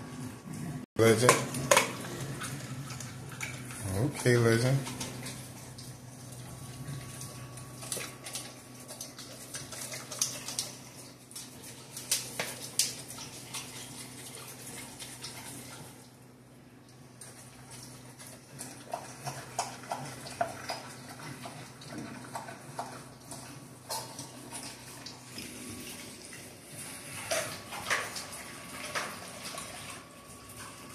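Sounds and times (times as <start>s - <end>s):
dog licking and chewing: 1.1s - 16.2s, 16.9s - 30.9s.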